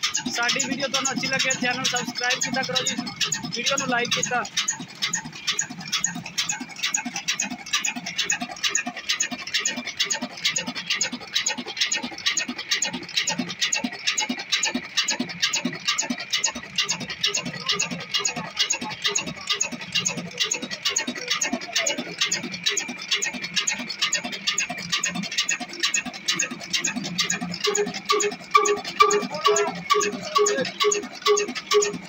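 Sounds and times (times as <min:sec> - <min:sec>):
rapid engine clicking: 0:00.0 - 0:32.0
stationary engine running: 0:00.0 - 0:32.0.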